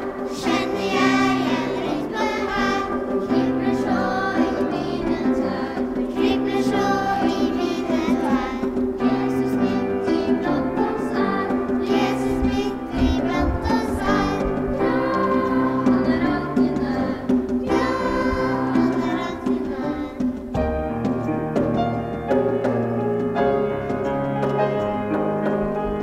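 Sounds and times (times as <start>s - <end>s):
children's choir singing: 0.0s - 21.2s
instrumental accompaniment: 0.0s - 26.0s.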